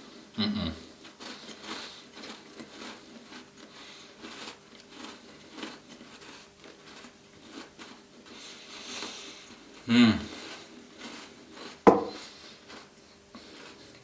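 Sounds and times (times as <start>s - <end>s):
chewing biscuits: 0.0s - 14.0s.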